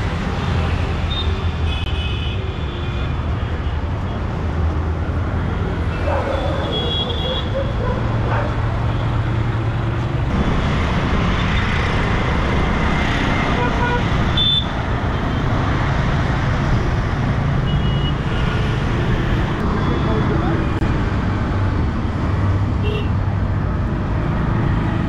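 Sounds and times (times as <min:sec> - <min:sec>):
road traffic engines and tyres: 0:00.0 - 0:25.0.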